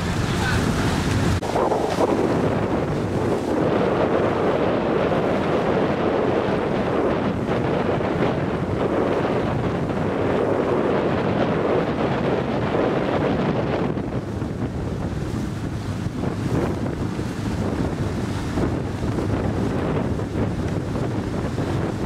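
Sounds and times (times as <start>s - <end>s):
lake water washing around boat: 0.0s - 22.0s
wind buffeting microphone: 0.0s - 22.0s.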